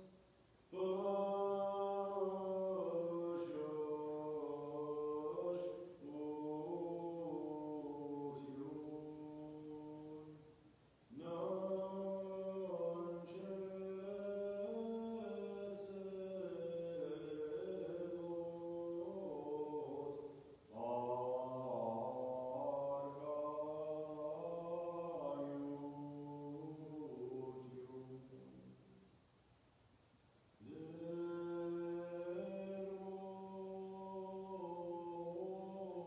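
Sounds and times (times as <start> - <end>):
liturgical chant singing: 0.0 - 29.0, 30.6 - 36.0.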